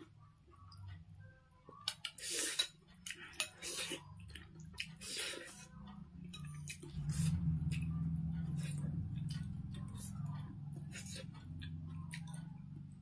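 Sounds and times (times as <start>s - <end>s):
low steady hum: 0.0s - 13.0s
slurping and chewing: 1.8s - 12.7s.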